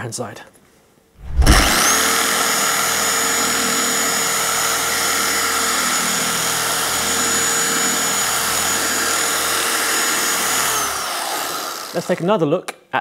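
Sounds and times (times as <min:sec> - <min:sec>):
polisher whining: 0:01.4 - 0:12.2.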